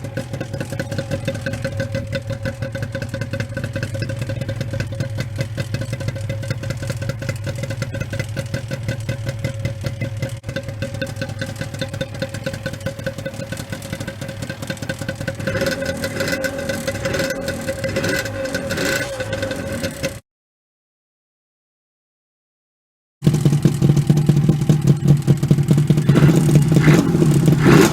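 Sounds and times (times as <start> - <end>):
motorcycle engine idling and revving: 0.0 - 20.2, 23.2 - 27.9.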